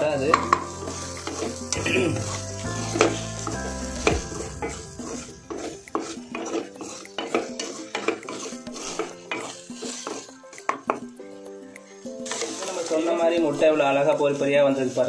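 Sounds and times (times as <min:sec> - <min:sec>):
wooden spatula scraping metal pan: 0:00.0 - 0:11.2, 0:11.9 - 0:14.1.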